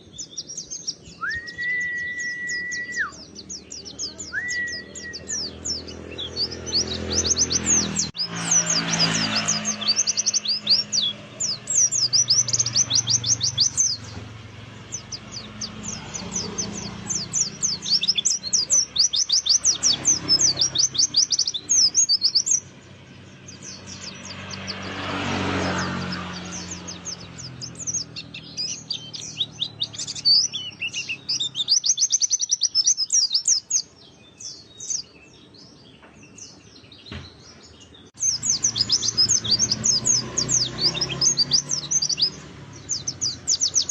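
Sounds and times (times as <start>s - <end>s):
bird twittering song: 0.0s - 43.9s.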